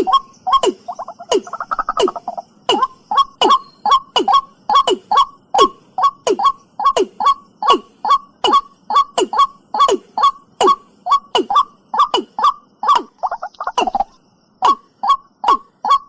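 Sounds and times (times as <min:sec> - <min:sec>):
bird calling hollow notes: 0:00.0 - 0:16.0.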